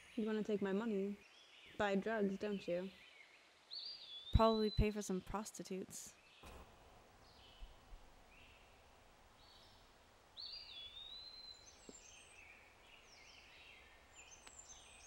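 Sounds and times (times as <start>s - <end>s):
faint birdsong chirps and whistles: 0.0s - 5.1s, 6.1s - 6.6s, 7.2s - 15.0s.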